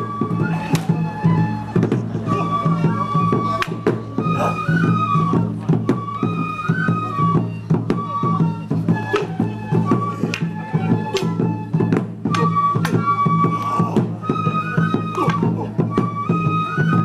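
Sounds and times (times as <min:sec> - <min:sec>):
drums: 0:00.0 - 0:17.0
transverse flutes playing melody: 0:00.0 - 0:17.0.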